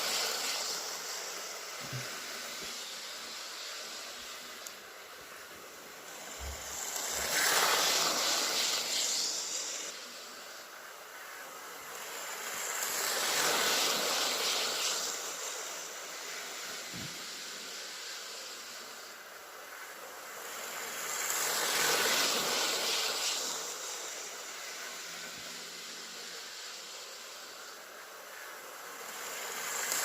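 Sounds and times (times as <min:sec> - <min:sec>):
model train running on track: 0:00.0 - 0:30.0.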